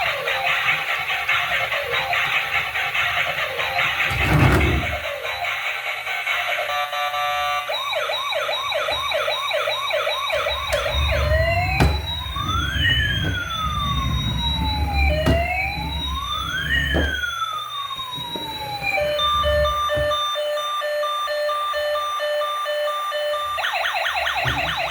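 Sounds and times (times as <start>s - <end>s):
electronic toy siren: 0.0s - 24.9s.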